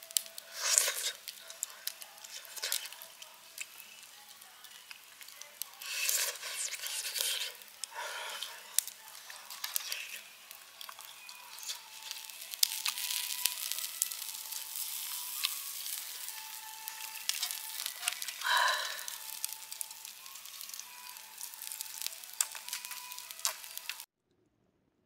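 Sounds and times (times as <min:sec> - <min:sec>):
fire crackles and pops: 0:00.0 - 0:24.1
meat sizzling on a grill: 0:00.0 - 0:24.1.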